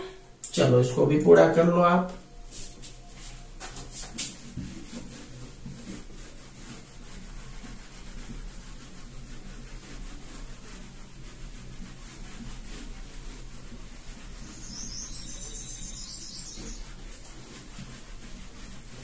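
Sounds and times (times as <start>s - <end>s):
hand rubbing whiteboard: 0.6s - 19.0s.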